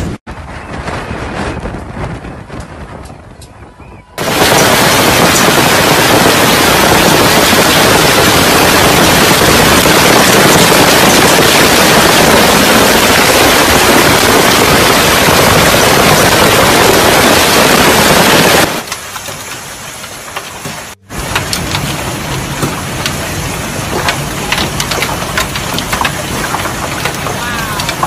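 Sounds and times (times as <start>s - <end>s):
heavy rain and hail: 4.2s - 28.0s
sharp hail hits: 4.2s - 28.0s.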